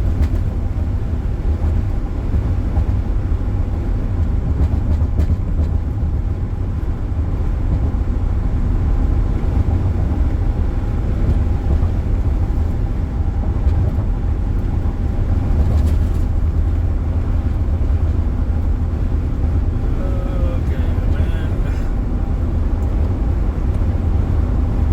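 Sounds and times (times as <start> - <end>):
road and engine noise inside car: 0.0 - 24.9.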